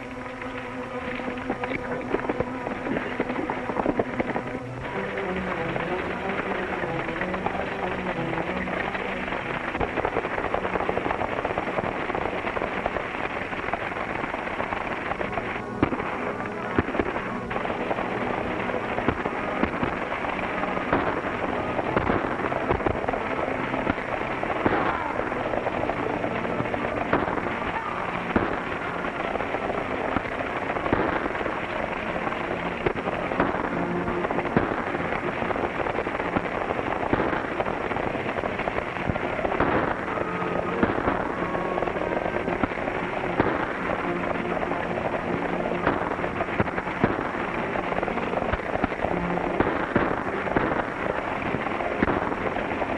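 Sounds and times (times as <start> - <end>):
sharp cracks: 0.0 - 52.9.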